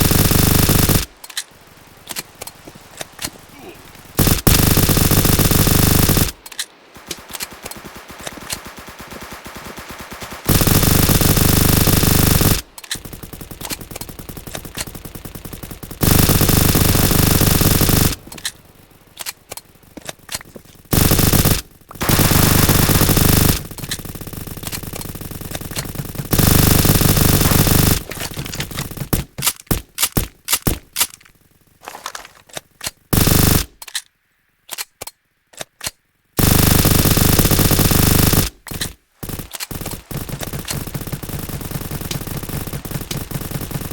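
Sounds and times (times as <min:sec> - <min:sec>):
airsoft gun full-auto bursts: 0:00.0 - 0:31.7, 0:33.0 - 0:33.8, 0:36.4 - 0:43.9.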